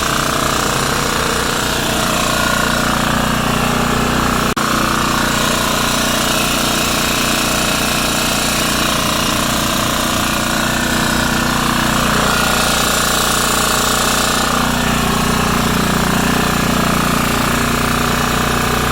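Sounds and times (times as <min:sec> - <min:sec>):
machine humming and rattling: 0:00.0 - 0:18.9.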